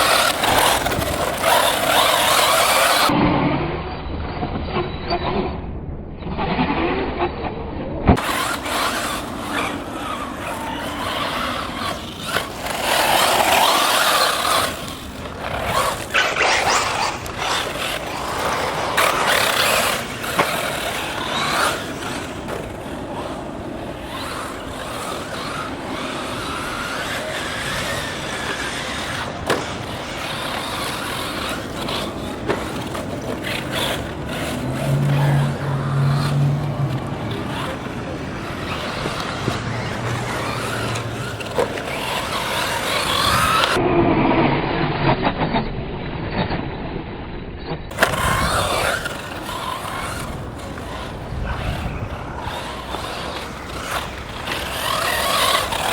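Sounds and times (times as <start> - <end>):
electric motor whine: 0.0 - 3.2, 8.2 - 43.8, 47.9 - 55.9
tyres on dirt: 0.0 - 3.3, 8.2 - 43.8, 47.9 - 55.9.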